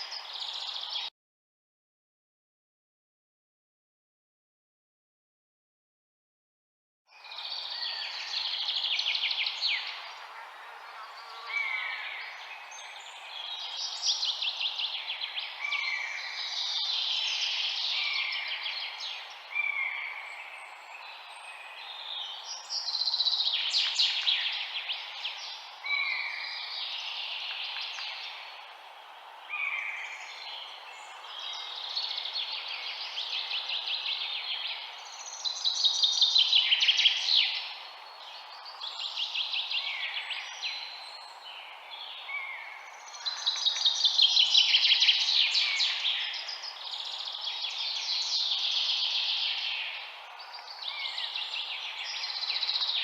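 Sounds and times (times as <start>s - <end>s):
songbirds singing: 0.0s - 1.1s, 7.1s - 53.0s.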